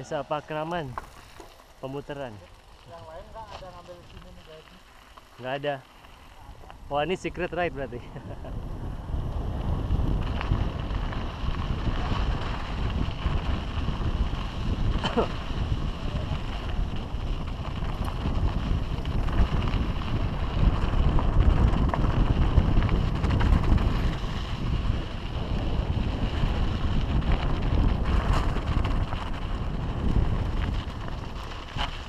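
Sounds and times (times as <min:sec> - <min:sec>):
wind buffeting microphone: 0:06.3 - 0:32.0.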